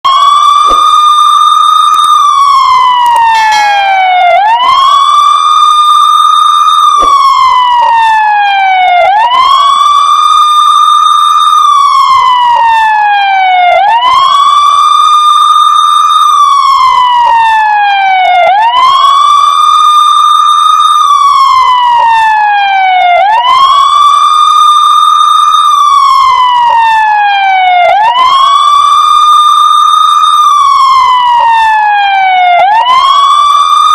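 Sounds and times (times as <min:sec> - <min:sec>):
police siren wailing: 0:00.0 - 0:33.9.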